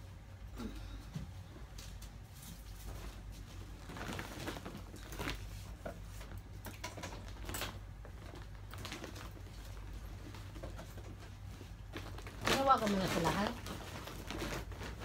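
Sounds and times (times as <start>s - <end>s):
low steady hum: 0.0s - 15.0s
plastic bags and clothing rustling: 0.6s - 15.0s.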